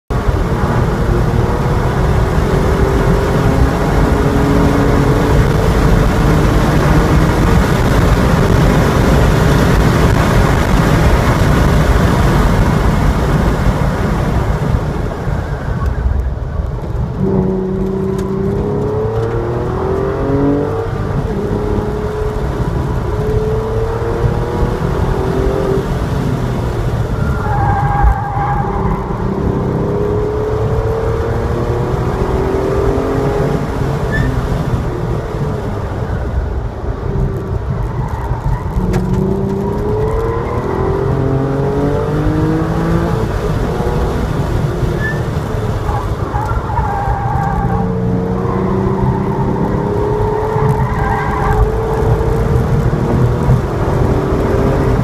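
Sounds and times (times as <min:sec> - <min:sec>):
car engine revving: 0:00.1 - 0:15.4, 0:16.7 - 0:55.0
wind and road noise: 0:00.1 - 0:55.0.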